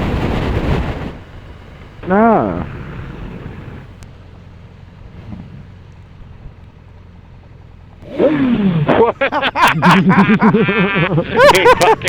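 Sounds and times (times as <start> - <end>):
motorcycle running: 0.0 - 12.0.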